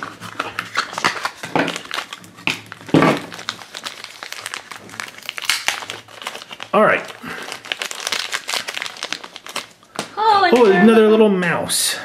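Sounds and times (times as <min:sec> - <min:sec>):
foil packet crinkling: 0:00.0 - 0:10.9.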